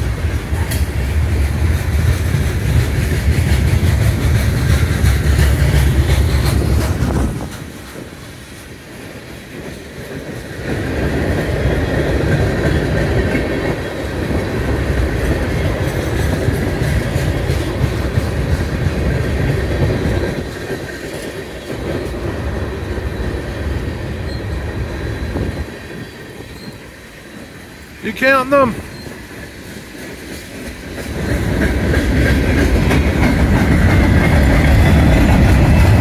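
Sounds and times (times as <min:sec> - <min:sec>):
freight train cars rolling past: 0:00.0 - 0:36.0.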